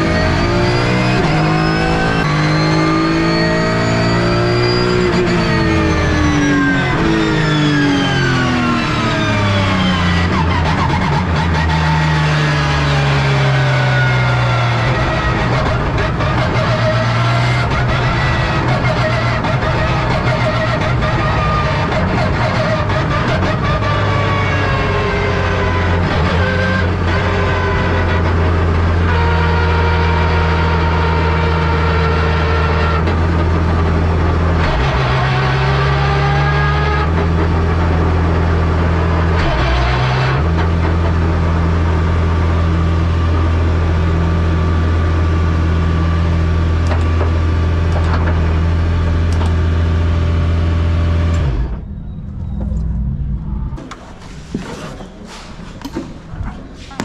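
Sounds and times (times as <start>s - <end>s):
race car engine running: 0.0s - 57.0s.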